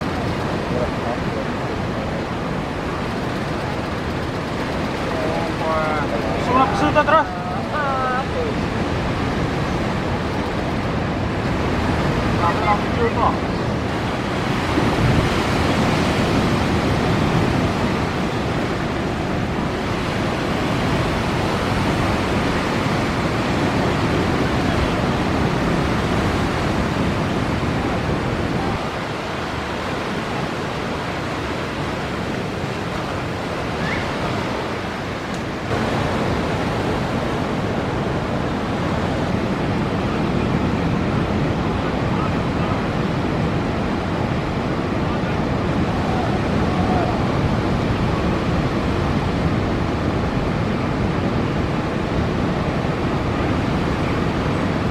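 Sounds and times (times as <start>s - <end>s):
ocean waves breaking: 0.0s - 54.9s
wind on microphone: 0.0s - 54.9s.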